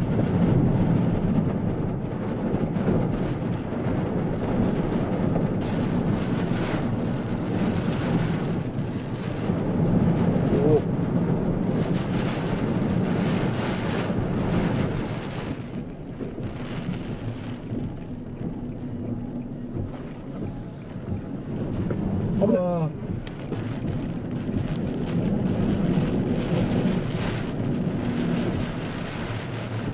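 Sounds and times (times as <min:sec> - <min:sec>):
rain: 0:00.0 - 0:29.9
storm wind: 0:00.0 - 0:29.9
wind gusts buffeting microphone: 0:00.0 - 0:29.9.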